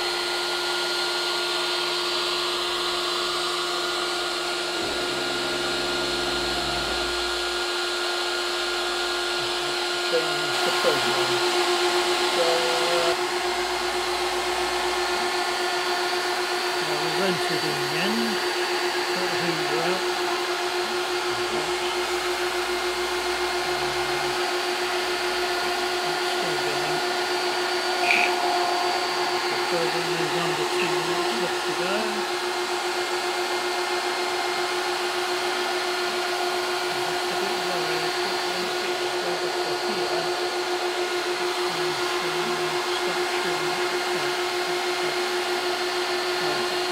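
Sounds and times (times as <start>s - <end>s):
router spindle cutting metal: 0.0s - 46.9s.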